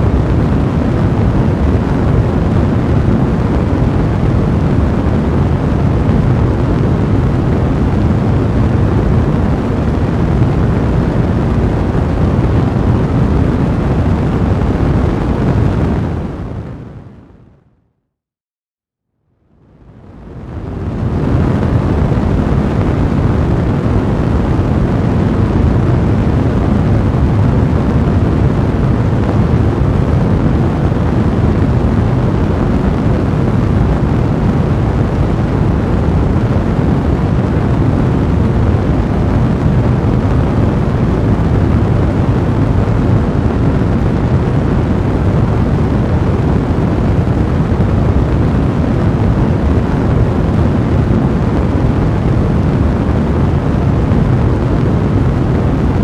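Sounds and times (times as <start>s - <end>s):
fire crackling and rumbling: 0.0s - 17.5s, 19.5s - 56.0s.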